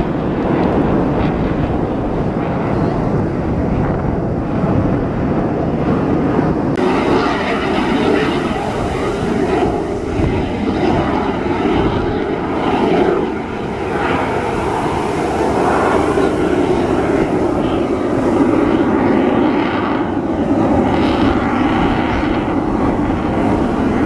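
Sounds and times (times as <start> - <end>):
jet passing overhead: 0.0 - 24.0.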